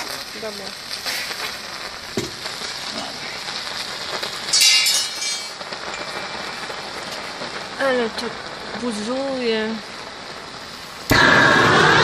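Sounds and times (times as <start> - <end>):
steam hiss: 0.0 - 12.0.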